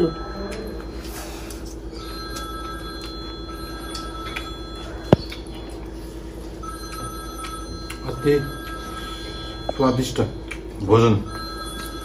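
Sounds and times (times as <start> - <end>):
high ringing tones: 0.0 - 12.0
steady background hum: 0.0 - 12.0.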